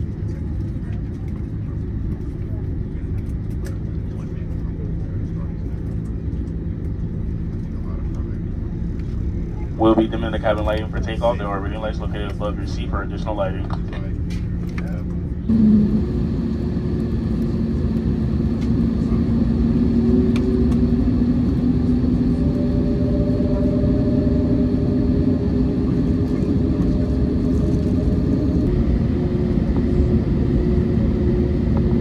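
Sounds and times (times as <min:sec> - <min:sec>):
aircraft cabin rumble: 0:00.0 - 0:32.0
jet engines low hum: 0:00.0 - 0:32.0.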